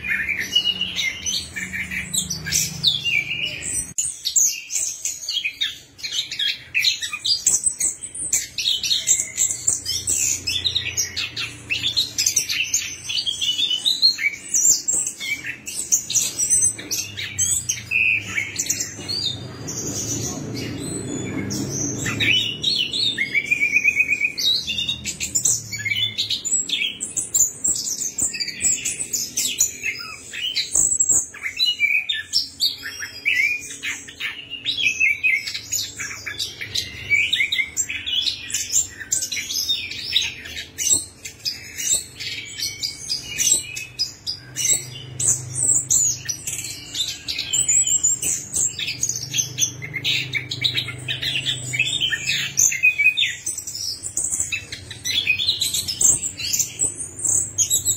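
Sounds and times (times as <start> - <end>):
bird singing chirps and trills: 0.0 - 57.9.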